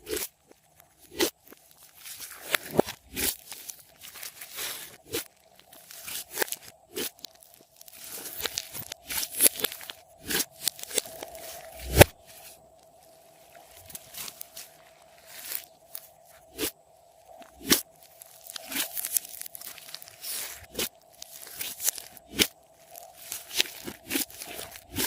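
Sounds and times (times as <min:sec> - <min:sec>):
hard candy crunching: 0:00.0 - 0:12.7, 0:17.3 - 0:25.0
faint steady hum: 0:00.0 - 0:25.0.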